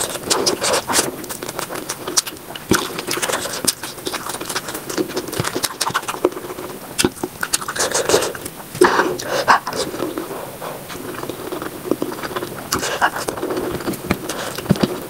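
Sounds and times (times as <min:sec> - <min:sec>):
mouth chewing and smacking: 0:00.0 - 0:15.0.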